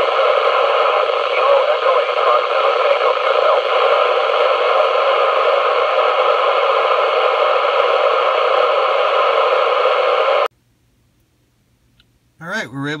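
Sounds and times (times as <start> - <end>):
radio static hiss: 0.0 - 10.5.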